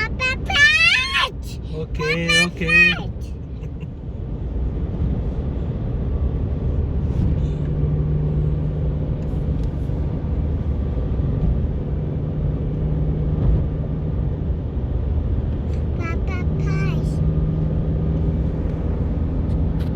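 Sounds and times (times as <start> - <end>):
constant low hum: 0.0 - 19.9
low mechanical rumble: 0.0 - 19.9.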